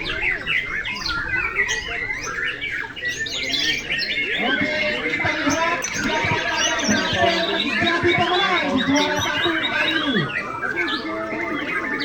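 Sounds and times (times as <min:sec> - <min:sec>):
birds singing whistled trills: 0:00.0 - 0:12.0
murmur of crowd voices: 0:00.0 - 0:12.0.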